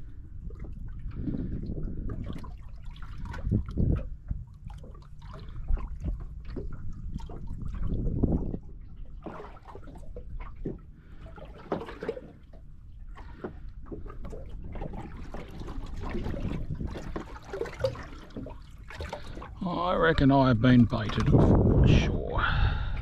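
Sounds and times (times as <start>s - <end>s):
wind rumble on microphone: 0.0s - 11.2s, 13.9s - 23.0s
waves lapping against boat hull: 0.0s - 23.0s.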